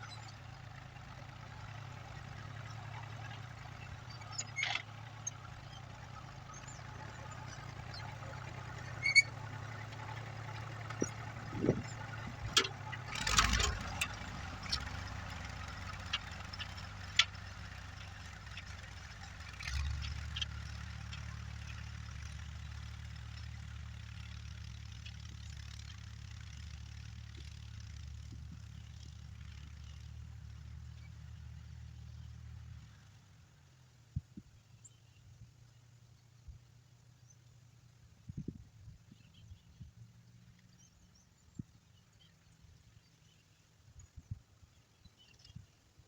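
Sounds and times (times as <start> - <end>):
engine humming: 0.0 - 46.0.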